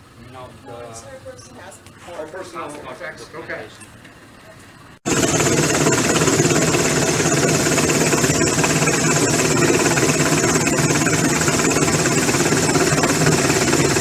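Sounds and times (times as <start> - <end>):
helicopter hovering: 0.0 - 14.0.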